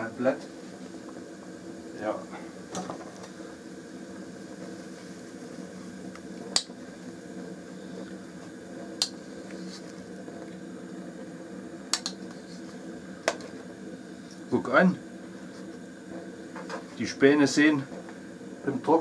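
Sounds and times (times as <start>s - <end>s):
gas cooker humming: 0.0s - 19.0s.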